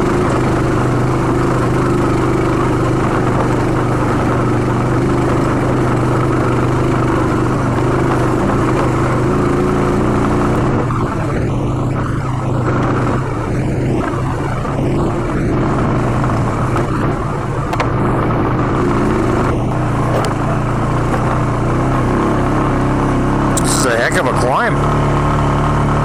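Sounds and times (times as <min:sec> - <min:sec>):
rough trail noise: 0:00.0 - 0:24.8
atv engine running: 0:00.0 - 0:26.0.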